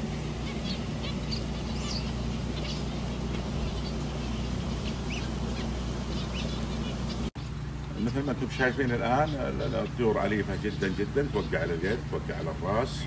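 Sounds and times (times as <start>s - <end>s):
finches chirping: 0.0s - 13.0s
steady low hum: 0.0s - 13.0s.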